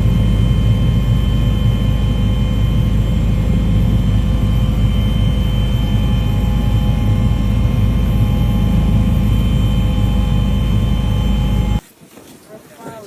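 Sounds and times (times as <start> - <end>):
aircraft engine drone: 0.0 - 11.8
steady whining tones: 0.0 - 11.8.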